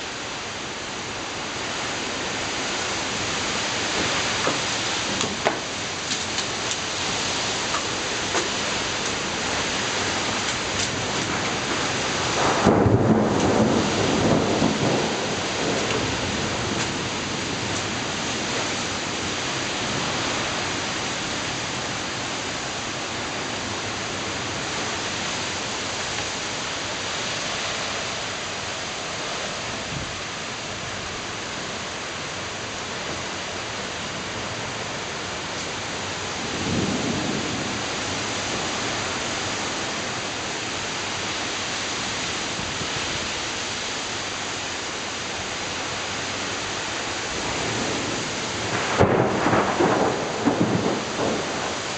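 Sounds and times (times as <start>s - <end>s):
heavy wind-driven rain: 0.0s - 51.9s.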